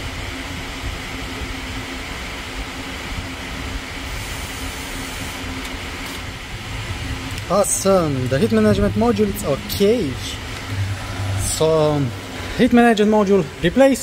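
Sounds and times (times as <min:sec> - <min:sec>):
faint constant tone: 0:00.0 - 0:14.0
low mechanical hum and rumble: 0:00.0 - 0:14.0.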